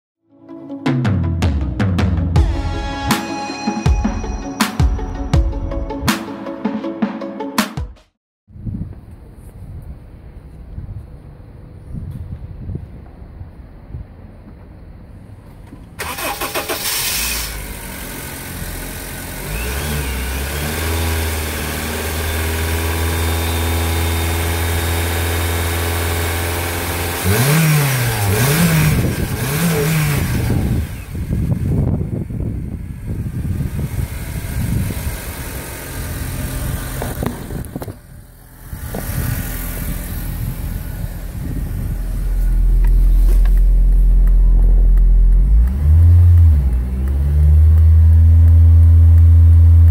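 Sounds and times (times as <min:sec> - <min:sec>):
car engine idling and revving: 0:09.0 - 0:49.9.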